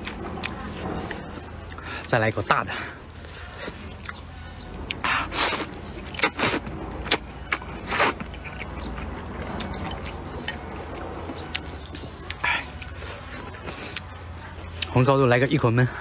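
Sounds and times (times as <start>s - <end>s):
chewing: 0.0s - 2.1s, 3.1s - 15.1s
high insect trill: 0.0s - 16.0s.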